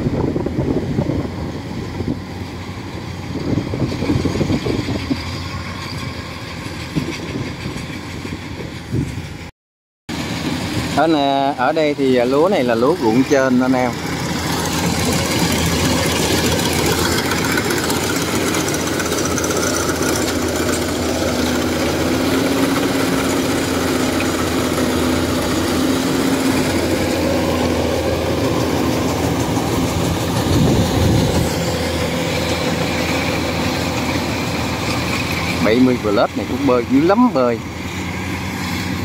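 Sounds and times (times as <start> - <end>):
harvester engine drone: 0.0 - 9.5, 10.1 - 39.0.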